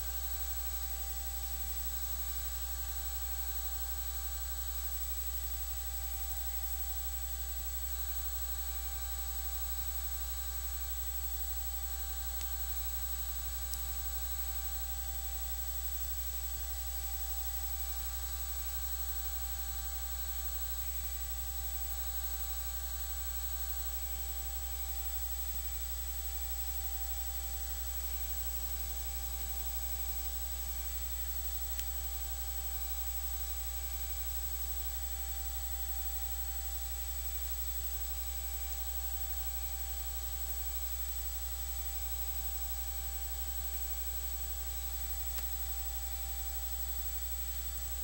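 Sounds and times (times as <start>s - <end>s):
constant hiss: 0.0s - 48.0s
low electrical hum: 0.0s - 48.0s.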